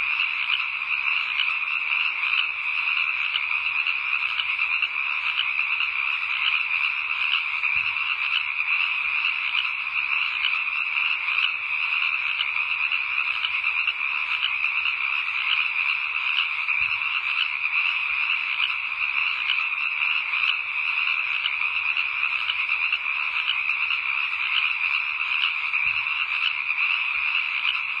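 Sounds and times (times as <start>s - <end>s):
frogs trilling: 0.0s - 28.0s.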